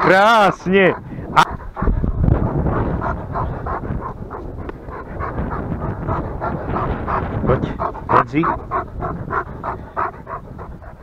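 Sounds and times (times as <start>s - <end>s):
dog panting: 0.0s - 11.0s
low rumble: 1.0s - 11.0s.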